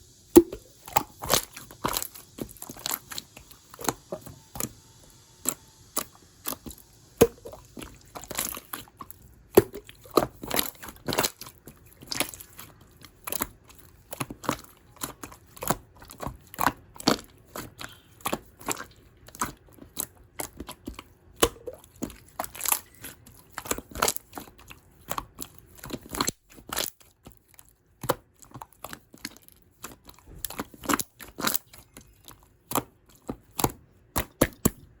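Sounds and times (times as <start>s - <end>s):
slime squished by hand: 0.3s - 4.8s, 5.4s - 35.0s.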